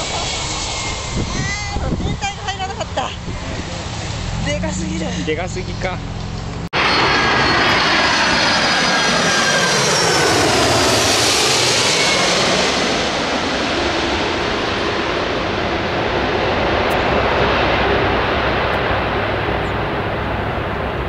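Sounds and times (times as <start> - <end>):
jet engine noise: 0.0 - 21.0.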